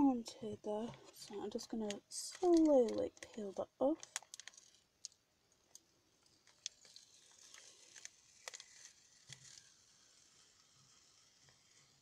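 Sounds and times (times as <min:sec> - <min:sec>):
scratchy rustle of peeling plastic: 0:01.0 - 0:12.0.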